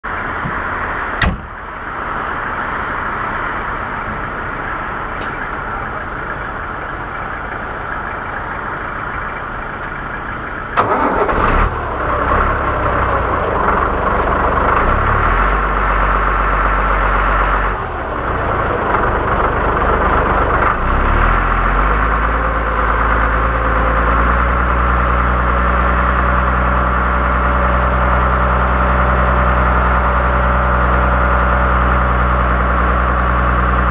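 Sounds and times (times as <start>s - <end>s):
tractor engine starting and idling: 0.1s - 33.9s.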